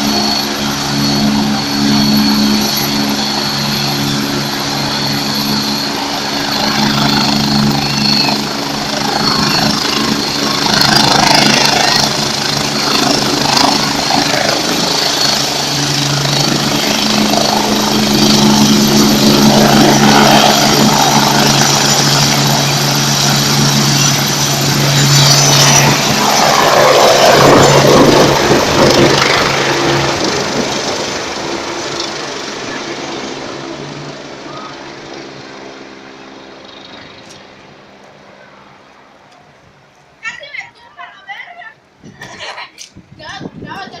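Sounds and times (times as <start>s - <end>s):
helicopter engine hum: 0.0s - 44.0s
helicopter rotor beat: 0.0s - 44.0s.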